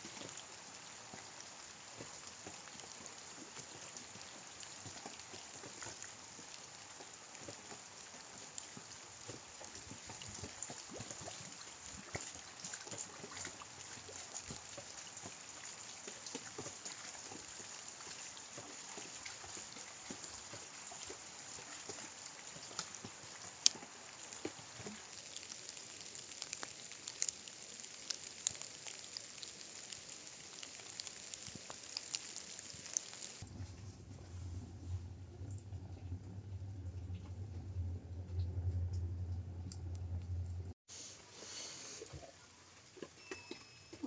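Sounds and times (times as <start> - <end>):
steady rain falling: 0.0 - 40.7.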